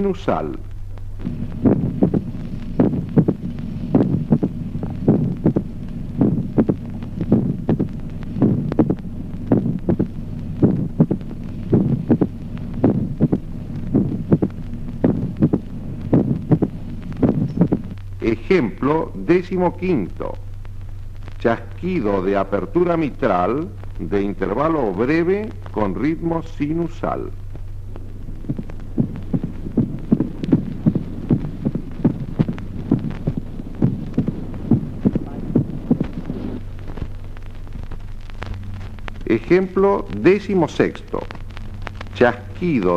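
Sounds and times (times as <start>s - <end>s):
heartbeat: 0.0s - 42.9s
steady low hum: 0.0s - 42.9s.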